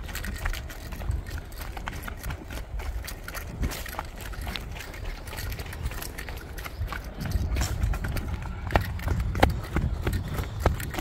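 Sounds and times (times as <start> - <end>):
footsteps on dirt trail: 0.0 - 11.0.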